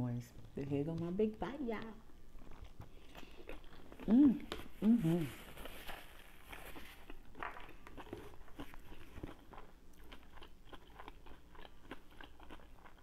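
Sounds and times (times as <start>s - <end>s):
chewing crisp salad: 2.3s - 13.0s.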